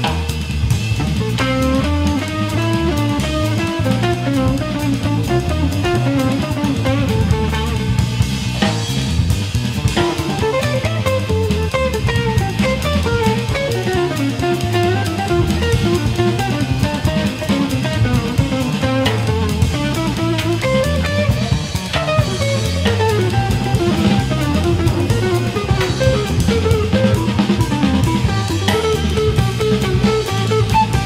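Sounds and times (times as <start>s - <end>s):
instrumental band music: 0.0s - 31.0s.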